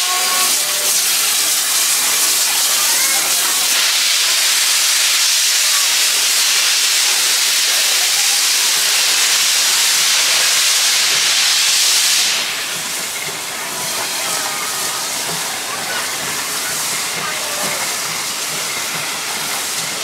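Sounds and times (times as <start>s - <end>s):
steam locomotive venting steam: 0.0s - 20.0s.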